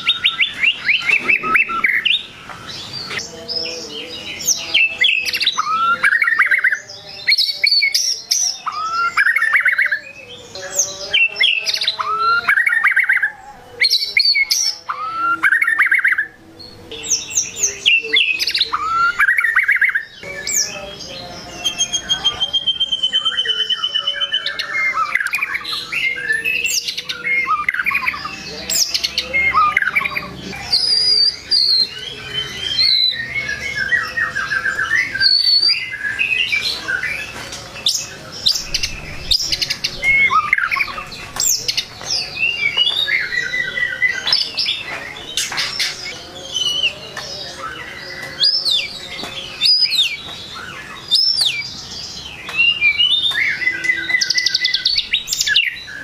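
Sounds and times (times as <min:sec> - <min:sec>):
songbird whistling song: 0:00.0 - 0:56.0.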